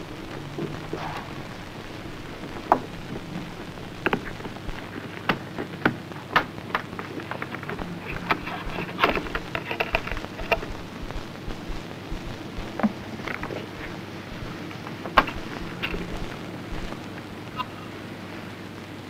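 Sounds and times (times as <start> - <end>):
clicks and pops: 0.0 - 17.7
film soundtrack hiss: 0.0 - 19.0.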